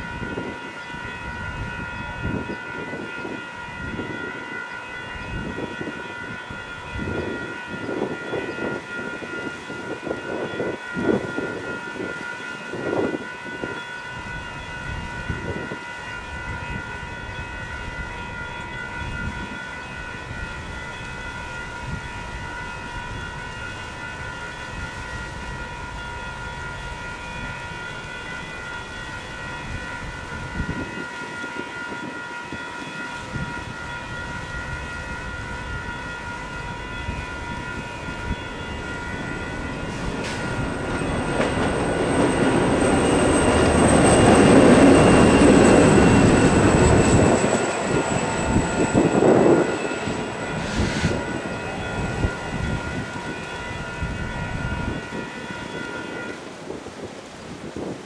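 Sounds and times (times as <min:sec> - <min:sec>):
diesel locomotive engine: 0:00.0 - 0:58.0
railroad crossing bells ringing: 0:00.0 - 0:58.0.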